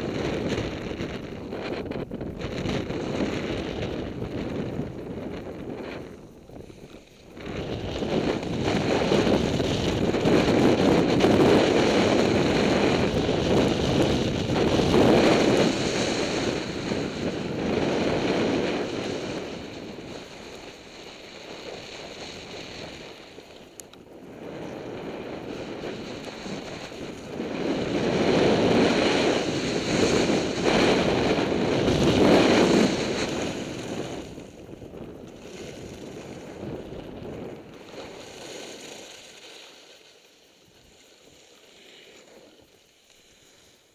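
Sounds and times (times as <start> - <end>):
wind buffeting microphone: 0.0 - 39.2.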